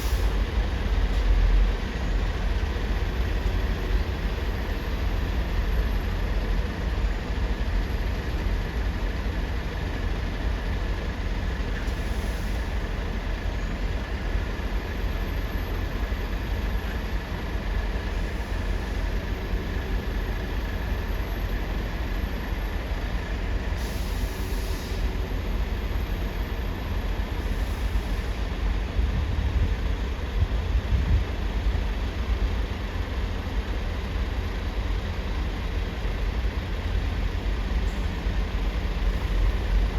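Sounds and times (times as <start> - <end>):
heavy engines rumbling: 0.0 - 39.9.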